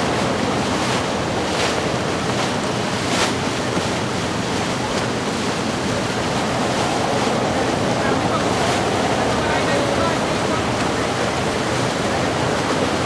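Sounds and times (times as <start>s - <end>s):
boat wake: 0.0s - 13.0s
waves rushing: 0.0s - 13.0s
wind buffeting microphone: 0.0s - 13.0s.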